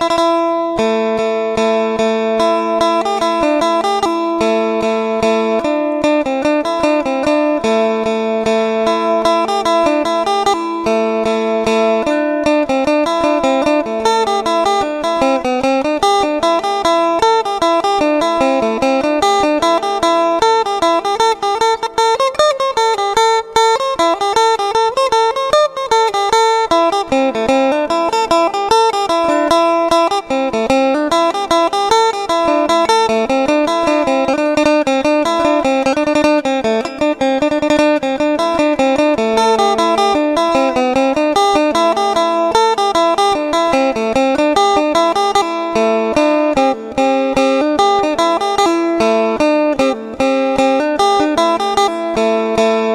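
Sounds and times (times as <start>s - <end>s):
plucked guitar melody: 0.0s - 52.9s.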